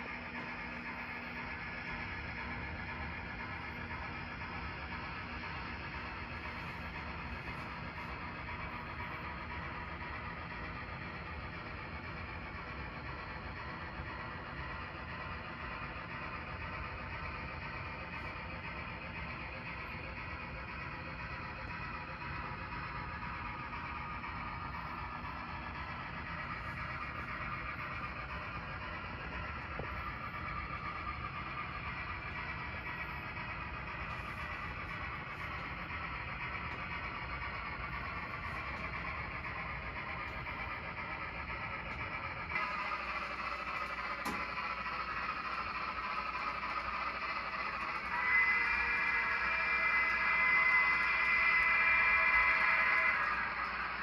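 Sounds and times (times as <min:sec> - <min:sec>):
model train motor whirring: 0:00.0 - 0:54.0.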